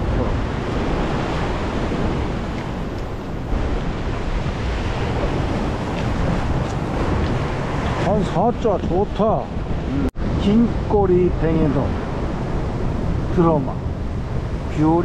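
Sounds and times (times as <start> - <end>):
ocean surf breaking on rocks: 0.0 - 15.0
wind rumbling on microphone: 0.0 - 15.0.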